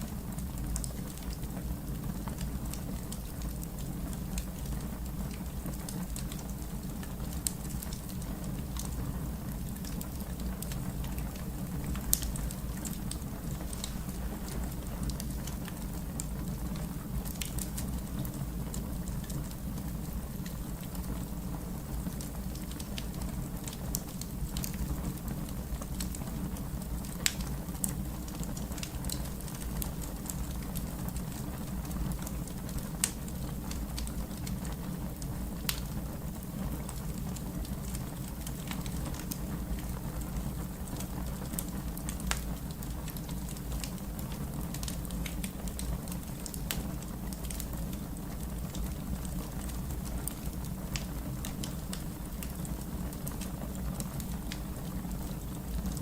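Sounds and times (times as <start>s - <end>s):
fire crackling: 0.0s - 56.0s.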